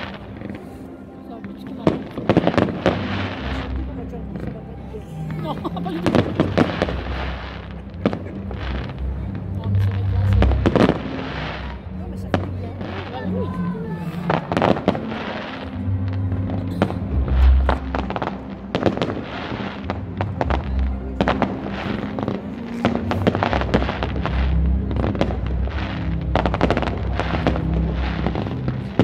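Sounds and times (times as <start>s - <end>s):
fireworks bangs and crackles: 0.0s - 0.7s, 1.4s - 4.6s, 5.5s - 13.4s, 14.2s - 29.0s
music with low bass line: 2.3s - 29.0s.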